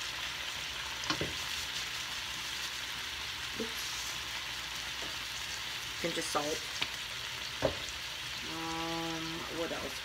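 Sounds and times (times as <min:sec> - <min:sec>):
shrimp sizzling in a frying pan: 0:00.0 - 0:10.0.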